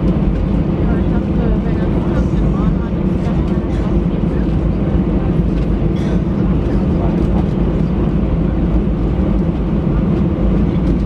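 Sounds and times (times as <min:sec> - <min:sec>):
jet cabin low rumble: 0:00.0 - 0:11.0.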